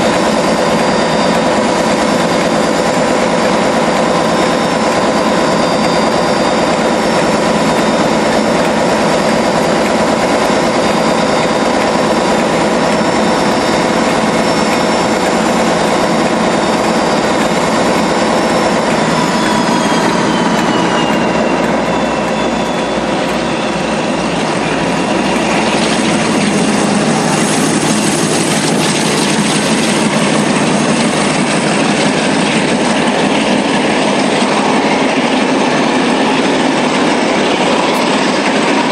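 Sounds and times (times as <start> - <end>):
broad rushing noise: 0.0 - 38.9
locomotive engine drone with whine: 0.0 - 38.9.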